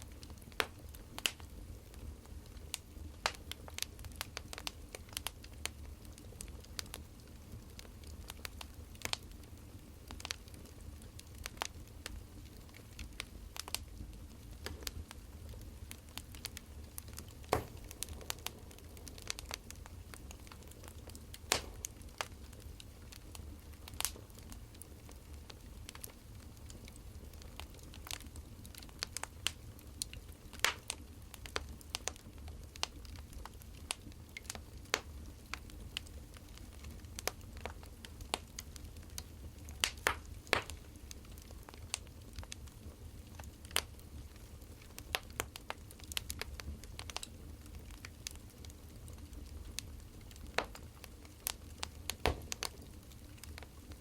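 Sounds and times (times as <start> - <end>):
steady low background noise: 0.0 - 54.0
wood fire crackling: 0.0 - 54.0.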